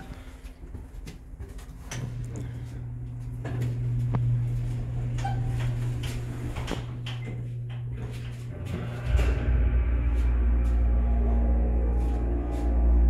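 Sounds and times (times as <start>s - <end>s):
elevator pump motor humming: 0.0s - 13.0s.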